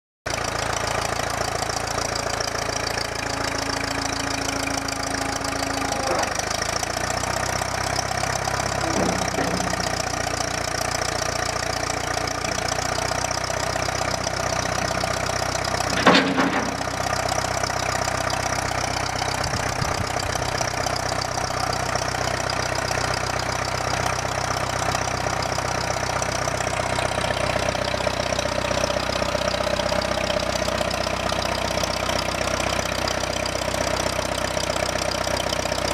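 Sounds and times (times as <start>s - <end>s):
backhoe engine idling: 0.3s - 35.9s.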